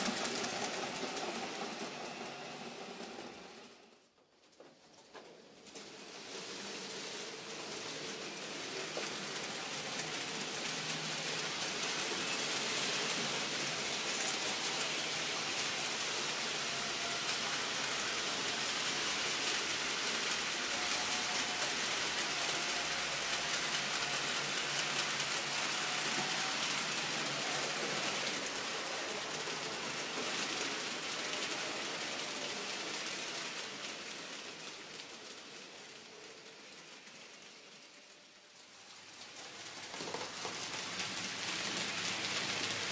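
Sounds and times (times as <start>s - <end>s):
model train wheels crackling: 0.0s - 3.9s, 5.3s - 42.9s.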